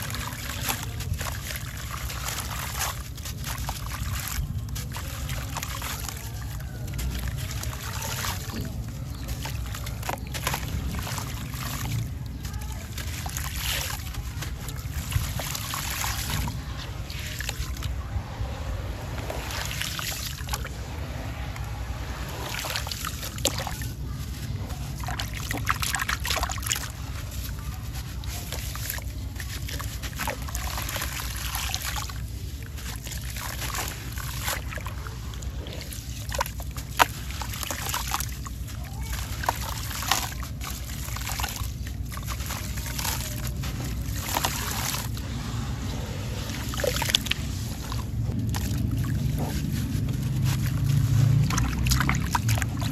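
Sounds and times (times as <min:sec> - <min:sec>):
hands splashing in water: 0:00.0 - 0:52.9
steady low rumble: 0:00.0 - 0:52.9.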